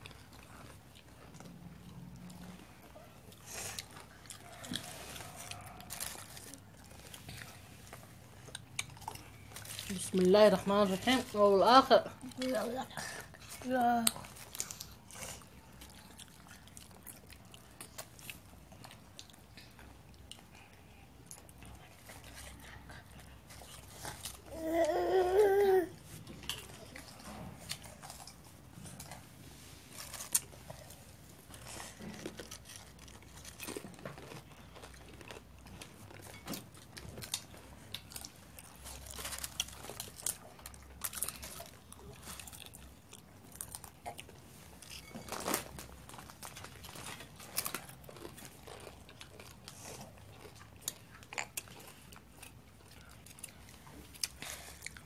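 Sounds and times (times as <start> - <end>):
crisps crunching and chewing: 0.0 - 25.0, 26.0 - 55.0.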